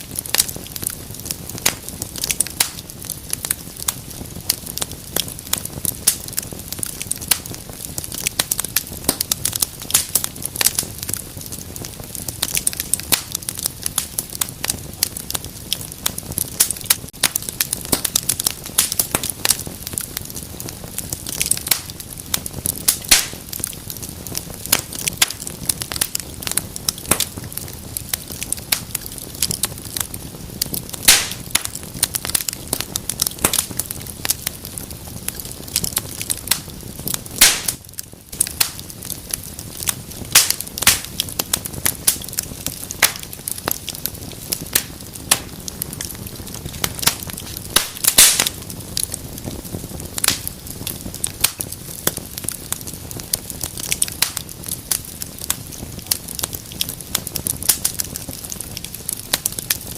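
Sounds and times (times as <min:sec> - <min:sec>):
hiss of flames: 0:00.0 - 0:59.9
wood fire crackling and popping: 0:00.0 - 0:59.9.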